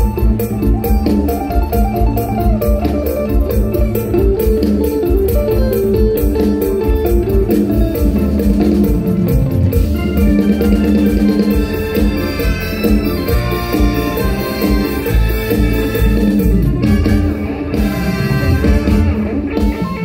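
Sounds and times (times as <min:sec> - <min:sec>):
heavy bass and drum beat: 0:00.0 - 0:20.0
plucked string melody: 0:00.0 - 0:20.0.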